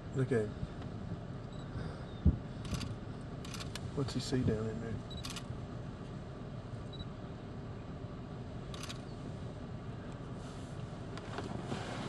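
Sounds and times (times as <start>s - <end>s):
vehicle idling rumble: 0.0s - 12.0s.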